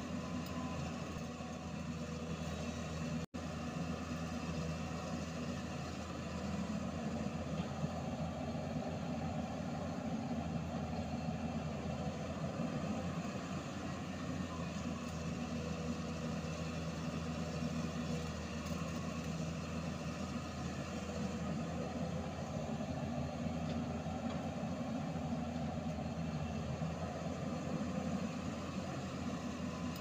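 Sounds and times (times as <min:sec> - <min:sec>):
heavy diesel engines running: 0:00.0 - 0:30.0.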